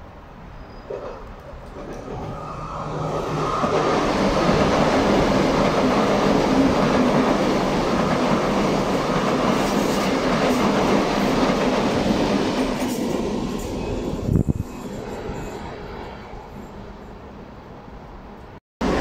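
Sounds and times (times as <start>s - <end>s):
train wheels rushing on rail: 0.9s - 17.2s.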